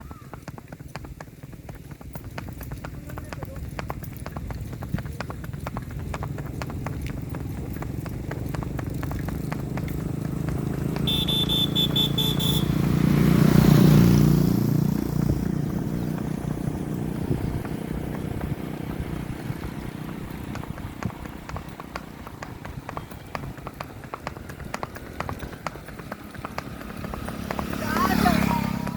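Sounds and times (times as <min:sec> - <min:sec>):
horse hooves clip-clopping on road: 0:00.0 - 0:28.9
motor vehicle passing: 0:00.1 - 0:28.9.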